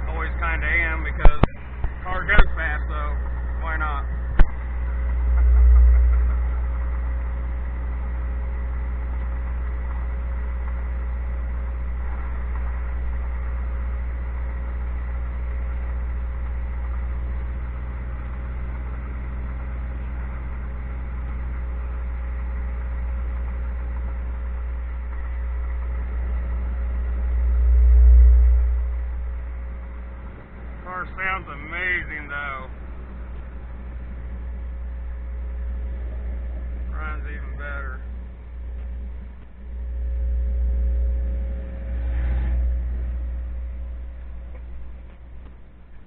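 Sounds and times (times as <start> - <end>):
car engine rumbling: 0.0 - 46.0
faint steady whine: 0.0 - 46.0.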